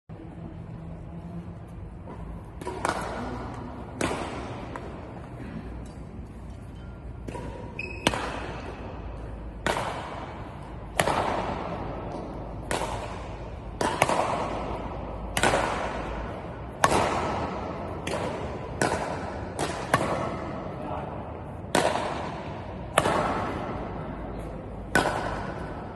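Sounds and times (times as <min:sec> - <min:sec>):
racket hitting shuttlecock: 0:01.6 - 0:20.8, 0:21.4 - 0:25.9.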